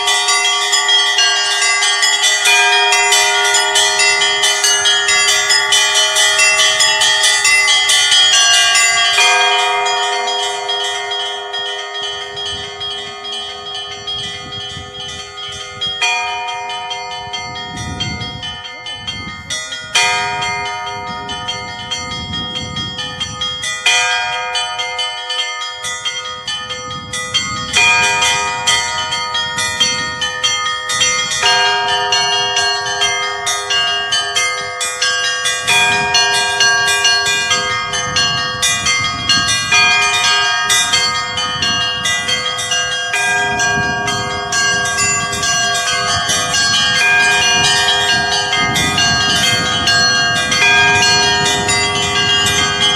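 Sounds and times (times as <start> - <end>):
heavy bell strokes: 0.0 - 52.9
small bells struck rapidly: 0.0 - 52.9.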